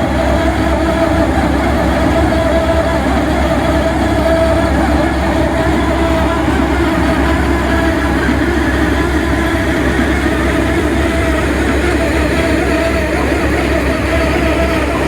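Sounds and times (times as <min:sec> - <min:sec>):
drilling rig droning: 0:00.0 - 0:15.0.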